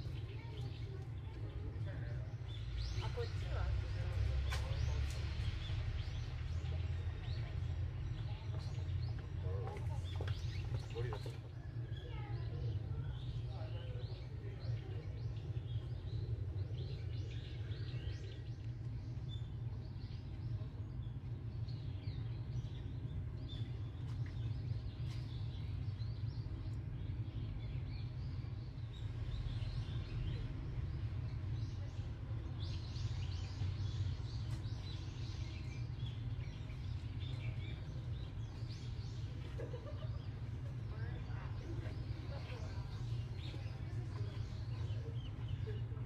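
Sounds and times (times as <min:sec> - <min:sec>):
low outdoor rumble: 0:00.0 - 0:46.0
small birds chirping: 0:00.0 - 0:46.0.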